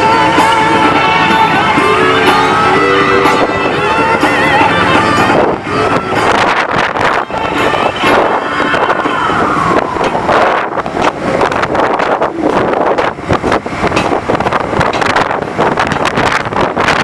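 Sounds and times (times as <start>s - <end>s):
bike road noise: 0.0s - 17.0s
rushing wind: 0.0s - 17.0s.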